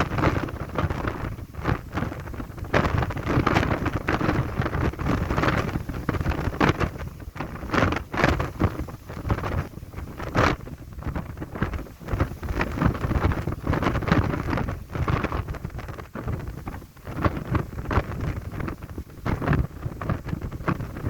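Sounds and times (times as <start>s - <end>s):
gusty wind on microphone: 0.0s - 21.0s.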